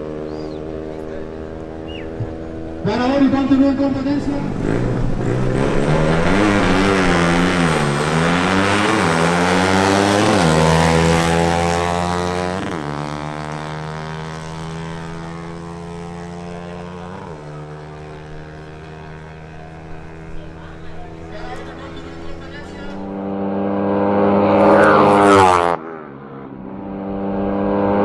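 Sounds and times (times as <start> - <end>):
motorcycle engines accelerating: 0.0 - 28.0.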